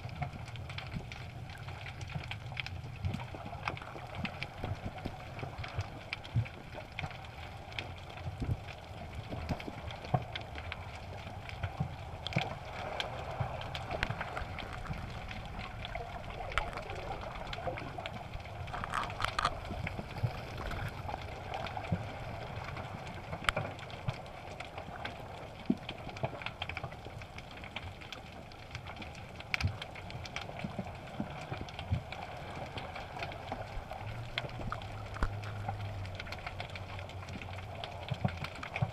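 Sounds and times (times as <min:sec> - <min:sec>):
sharp clicks and crackles: 0:00.0 - 0:38.9
underwater water wash: 0:00.0 - 0:38.9.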